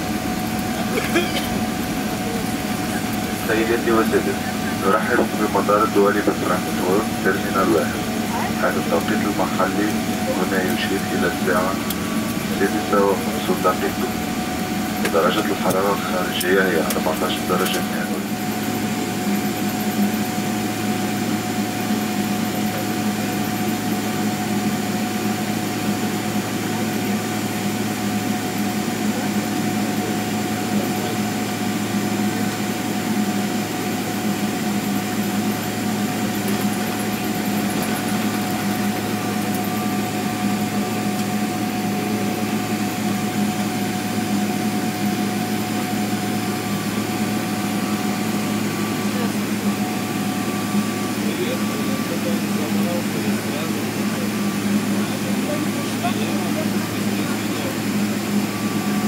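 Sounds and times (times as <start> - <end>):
airplane cabin hum: 0.0 - 59.0.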